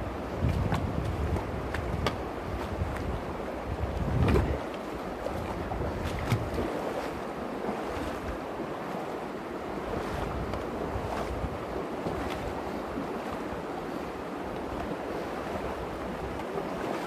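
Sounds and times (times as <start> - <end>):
wind buffeting microphone: 0.0 - 8.6, 9.5 - 16.9.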